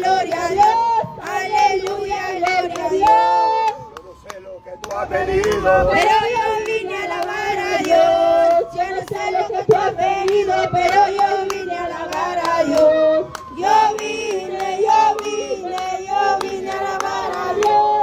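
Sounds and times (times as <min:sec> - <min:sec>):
woman singing into a microphone: 0:00.0 - 0:03.8, 0:05.8 - 0:18.0
hand-clapping: 0:00.2 - 0:18.0.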